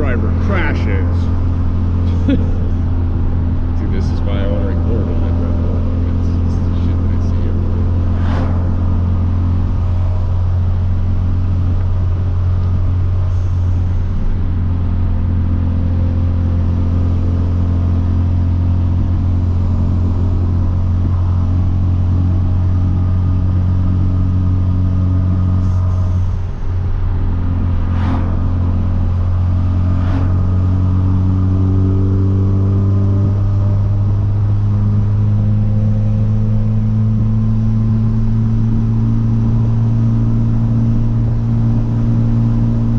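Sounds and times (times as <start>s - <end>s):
car engine cruise drone: 0.0s - 42.9s.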